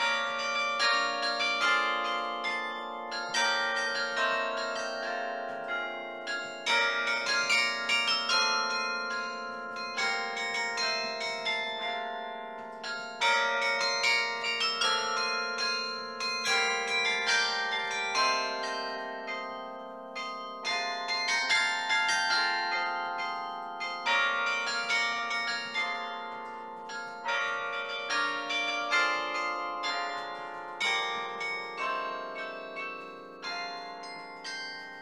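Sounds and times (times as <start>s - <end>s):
carillon bells playing a tune: 0.0s - 35.0s.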